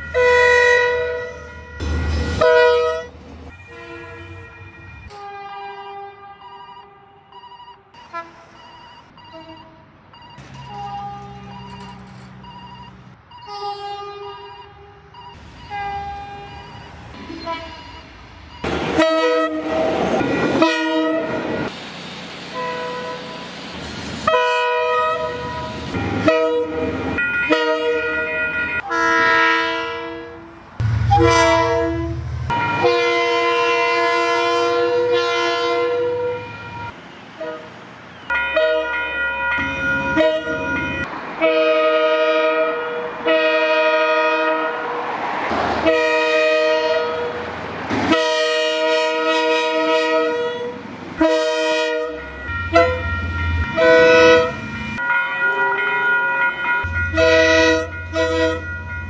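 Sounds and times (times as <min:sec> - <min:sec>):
locomotive horn blasts: 0:00.0 - 0:07.3, 0:08.0 - 0:09.9, 0:10.7 - 0:11.9, 0:13.4 - 0:21.7, 0:22.5 - 0:23.4, 0:24.2 - 0:37.7, 0:38.3 - 0:45.0, 0:45.8 - 0:47.4, 0:48.1 - 0:55.9, 0:56.8 - 0:59.0
passing train rumble: 0:00.0 - 0:07.3, 0:08.2 - 0:59.0.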